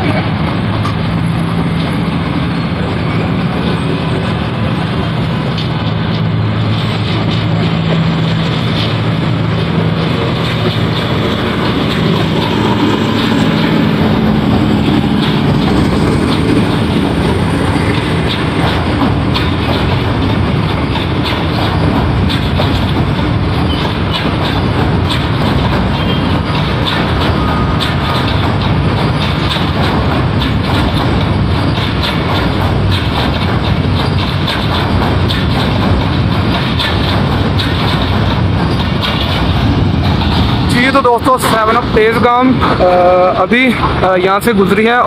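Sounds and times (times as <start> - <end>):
diesel locomotive engine hum: 0.0 - 45.0
wheels clicking over rail joints: 0.0 - 45.0.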